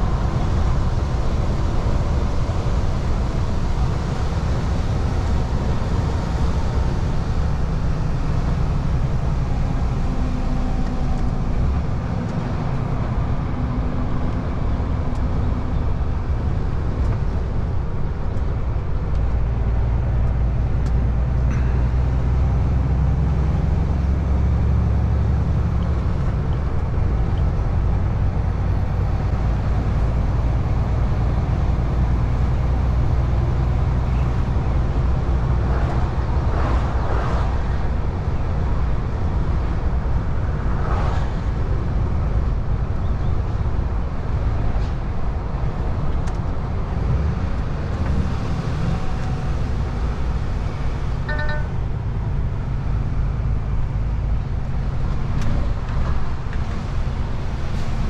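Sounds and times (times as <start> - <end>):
road and tyre noise: 0.0 - 58.0
truck diesel engine rumble: 0.0 - 58.0.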